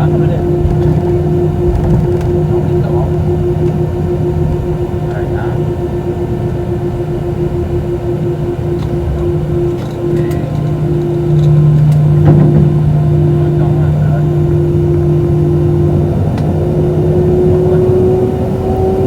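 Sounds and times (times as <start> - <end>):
jet engines from inside cabin: 0.0 - 19.0.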